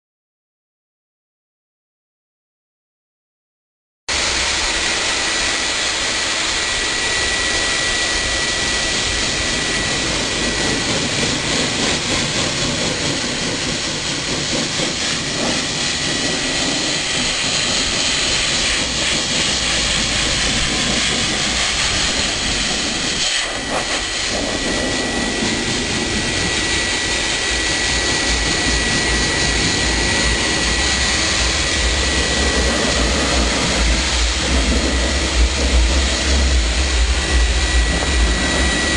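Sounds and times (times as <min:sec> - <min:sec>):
dog dryer blowing air: 0:04.1 - 0:38.9.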